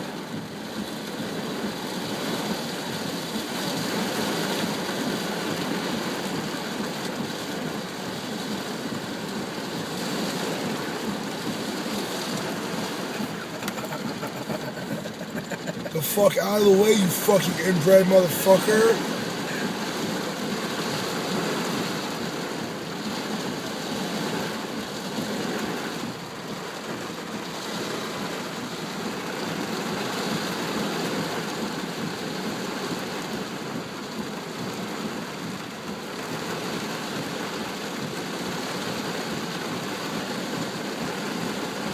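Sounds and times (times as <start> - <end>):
rain falling steadily: 0.0 - 41.9.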